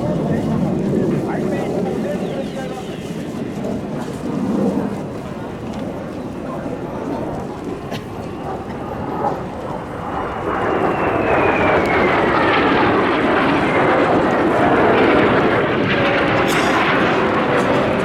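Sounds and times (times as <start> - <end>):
jet flying past whining: 0.0 - 18.0.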